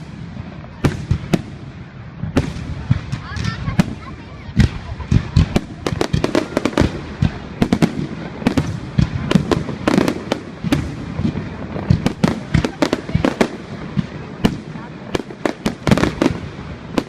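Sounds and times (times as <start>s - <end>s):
continuous rumble: 0.0s - 17.0s
fireworks bangs and crackles: 0.0s - 17.0s.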